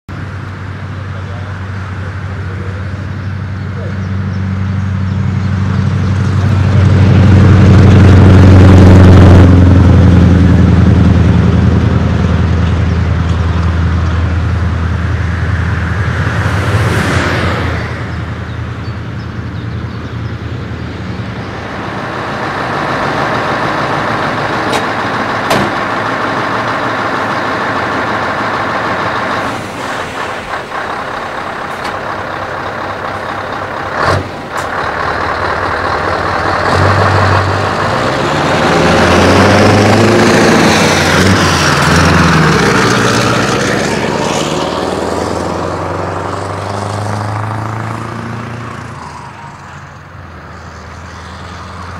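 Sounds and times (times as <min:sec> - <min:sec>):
diesel truck engine: 0:00.1 - 0:51.9.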